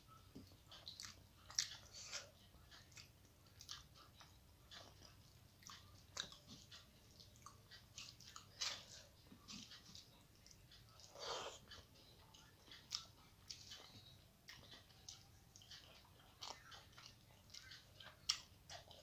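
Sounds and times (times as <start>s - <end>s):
chewing: 0.1s - 19.0s.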